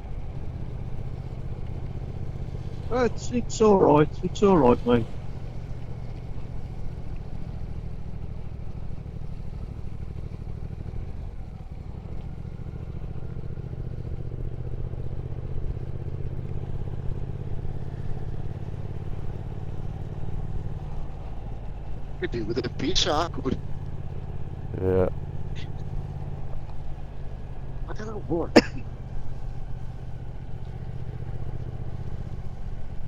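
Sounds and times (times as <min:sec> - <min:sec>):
motorcycle engine cruising: 0:00.0 - 0:33.0
road and wind noise: 0:00.0 - 0:33.0.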